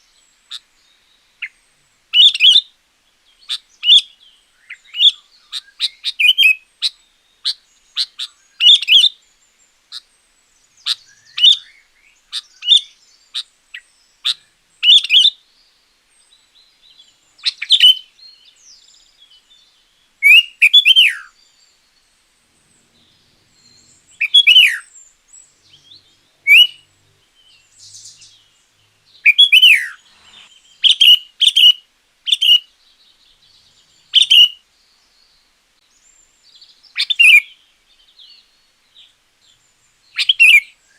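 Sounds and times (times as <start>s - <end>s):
bird singing chirps: 0.0s - 40.9s.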